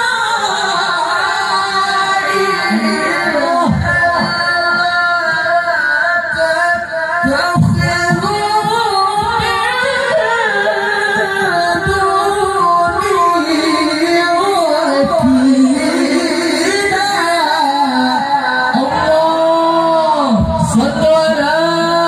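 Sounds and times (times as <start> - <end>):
man reciting melodically into microphone: 0.0 - 22.0.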